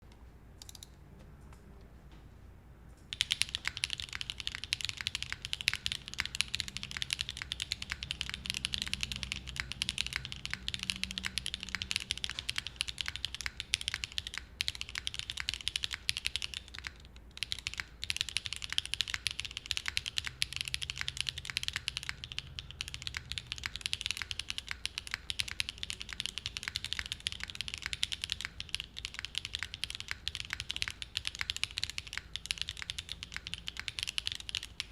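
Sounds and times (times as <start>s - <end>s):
mechanical keyboard typing: 0.6s - 0.9s, 3.1s - 34.9s.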